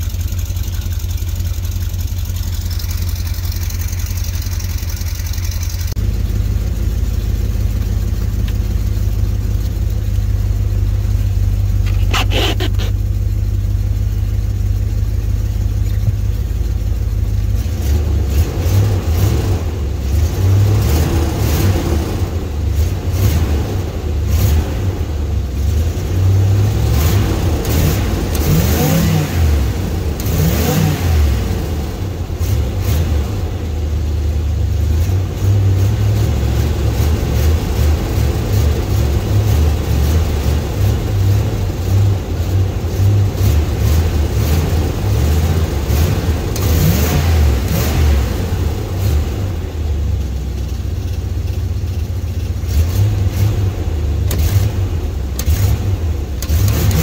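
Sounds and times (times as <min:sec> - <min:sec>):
motorhome engine revving: 0:00.0 - 0:13.5, 0:15.1 - 0:33.9, 0:34.7 - 0:51.2, 0:52.1 - 0:57.0.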